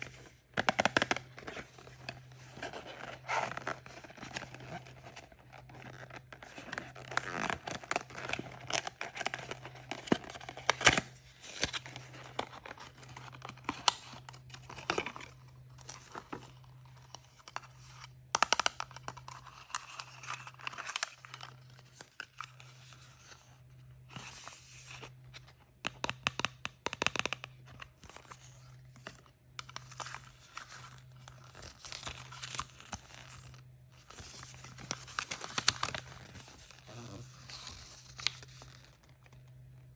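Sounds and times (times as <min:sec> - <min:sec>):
packaging crinkling and tearing: 0:00.0 - 0:23.3, 0:27.0 - 0:39.9.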